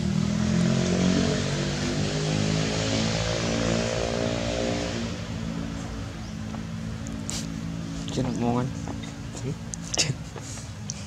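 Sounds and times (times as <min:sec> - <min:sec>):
vehicle engine passing by: 0:00.0 - 0:09.6.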